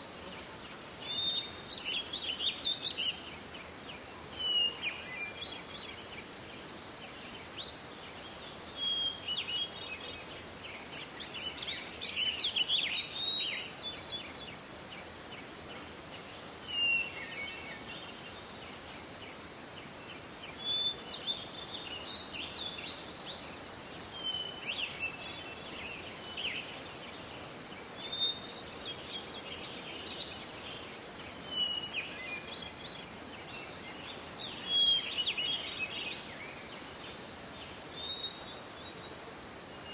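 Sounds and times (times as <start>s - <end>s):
faint background hiss: 0.0s - 39.9s
songbirds chirping and whistling: 0.0s - 39.9s.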